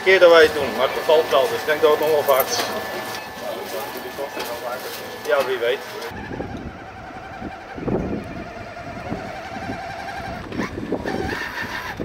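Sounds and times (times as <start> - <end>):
toy truck motor whine: 0.0 - 12.0.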